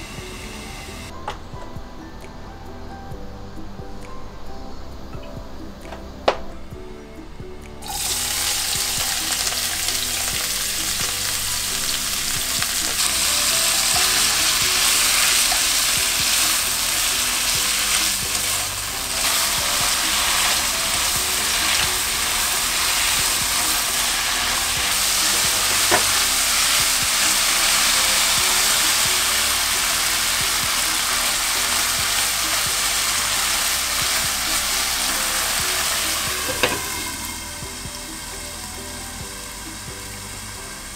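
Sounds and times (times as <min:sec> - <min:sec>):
stems sizzling in hot oil: 0:07.8 - 0:40.9.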